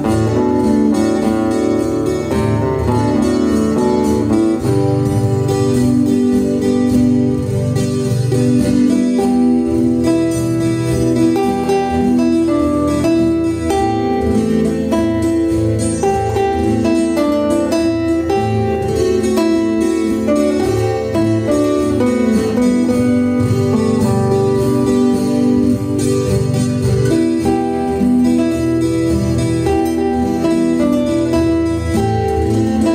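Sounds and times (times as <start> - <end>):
plucked guitar melody: 0.0 - 32.9.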